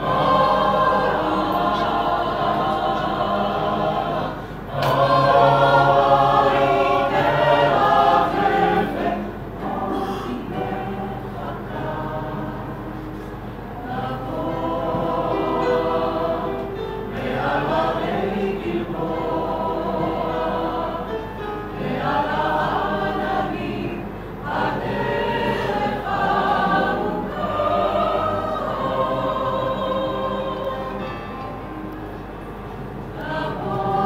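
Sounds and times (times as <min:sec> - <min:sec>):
mixed choir singing in harmony: 0:00.0 - 0:31.9, 0:32.5 - 0:34.0.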